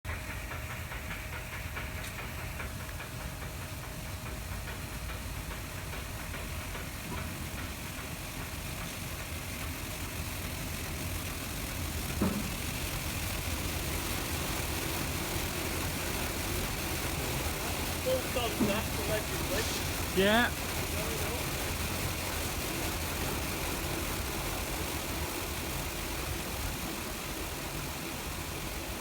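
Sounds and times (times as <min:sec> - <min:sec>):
train-wash machinery rumbling: 0:00.1 - 0:29.0
fine regular ticking: 0:00.3 - 0:29.0.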